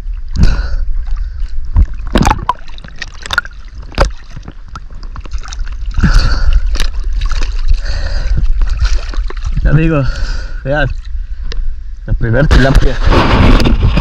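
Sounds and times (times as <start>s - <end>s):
water splashing against a kayak: 0.0s - 11.7s, 12.5s - 14.0s.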